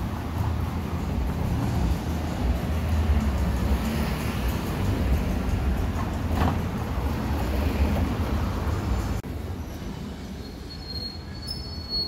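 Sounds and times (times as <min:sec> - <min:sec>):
street noise rumble with hiss: 0:00.0 - 0:12.0.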